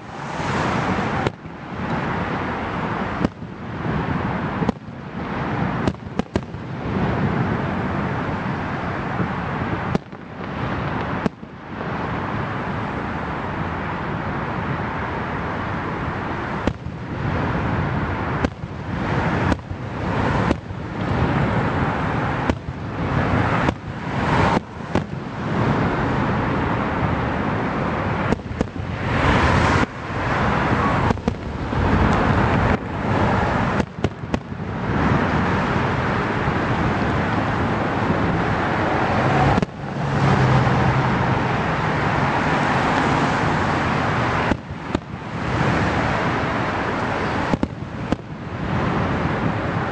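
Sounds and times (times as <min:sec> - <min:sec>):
fireworks bangs and crackling: 0:00.0 - 0:14.8, 0:15.7 - 0:40.5, 0:42.7 - 0:49.9.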